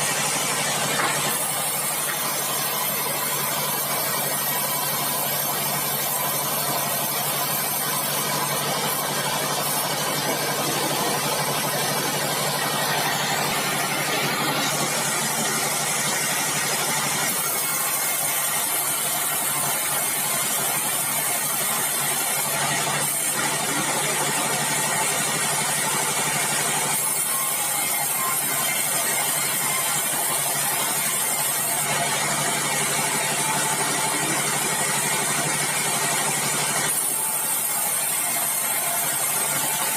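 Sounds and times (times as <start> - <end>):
bandsaw machinery running: 0.0 - 39.9.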